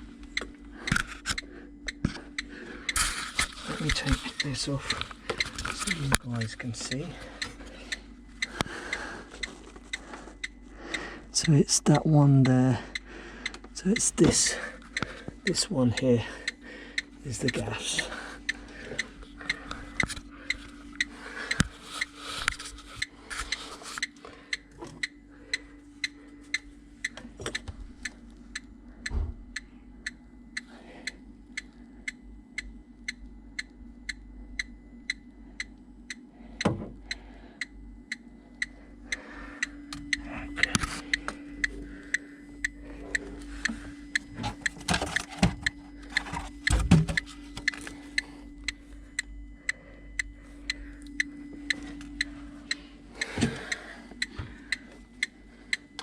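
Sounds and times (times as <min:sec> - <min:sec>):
steady ticking: 0:00.0 - 0:23.2, 0:24.0 - 0:56.0
low steady hum: 0:00.0 - 0:56.0.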